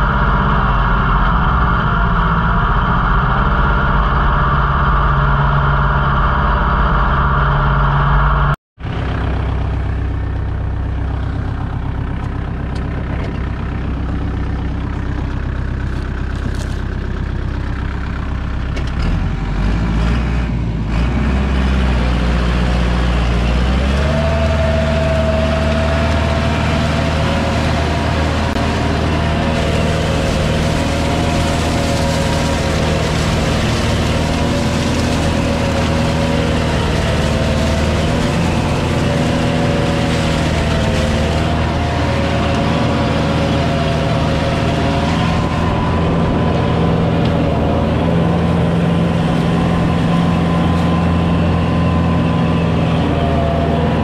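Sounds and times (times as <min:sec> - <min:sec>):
steady whine: 0:00.0 - 0:19.0, 0:22.7 - 0:54.0
tractor diesel engine under load: 0:00.0 - 0:54.0.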